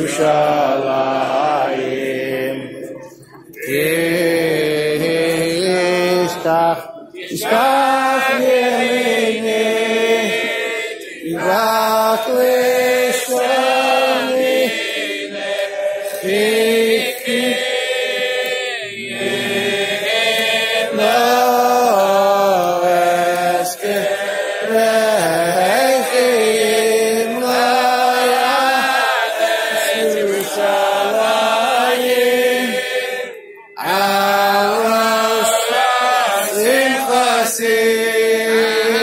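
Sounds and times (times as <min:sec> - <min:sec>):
men singing chant-like melody: 0:00.0 - 0:39.0.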